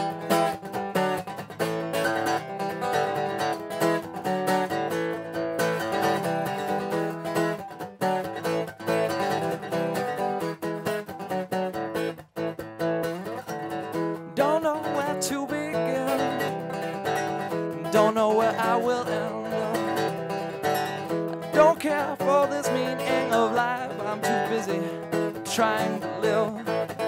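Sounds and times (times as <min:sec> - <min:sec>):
strummed acoustic guitar chords: 0:00.0 - 0:27.0.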